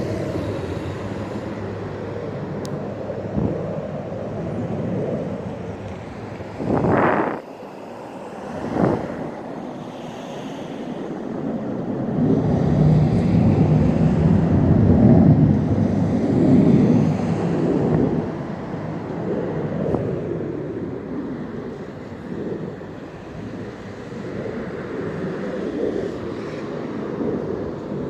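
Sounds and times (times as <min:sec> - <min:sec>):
low rumbling roar from sky: 0:00.0 - 0:28.0
wind blasts on microphone: 0:00.0 - 0:28.0.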